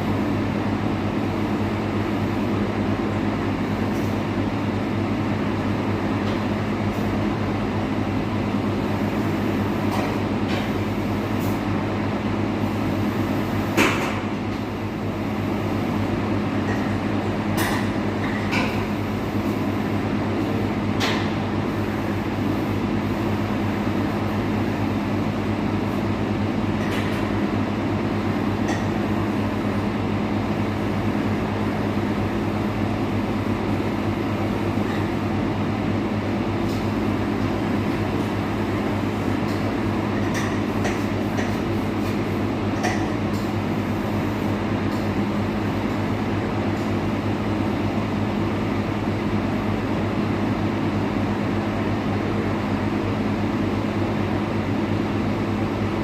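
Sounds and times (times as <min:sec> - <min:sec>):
mechanical drone with low hum: 0:00.0 - 0:56.0.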